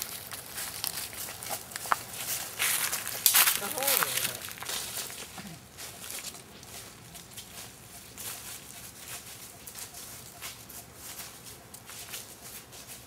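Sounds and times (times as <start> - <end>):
footsteps on dry leaves: 0.0 - 13.0.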